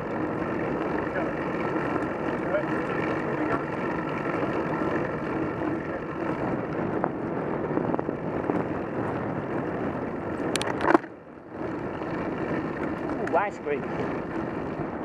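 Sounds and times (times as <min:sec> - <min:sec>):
bike tyre noise: 0:00.0 - 0:15.0
rushing wind: 0:00.0 - 0:15.0.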